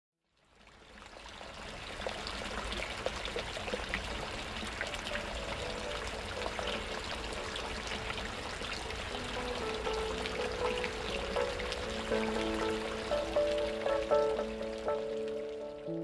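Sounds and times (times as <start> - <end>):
water pouring from a pipe: 0.3 - 16.0.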